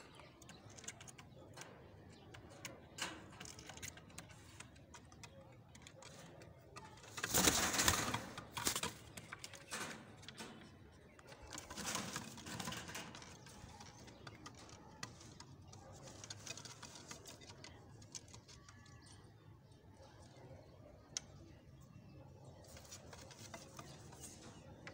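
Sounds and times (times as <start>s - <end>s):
pigeons rustling: 0.0s - 19.1s, 22.4s - 24.9s
faint pigeon sounds: 0.0s - 24.9s.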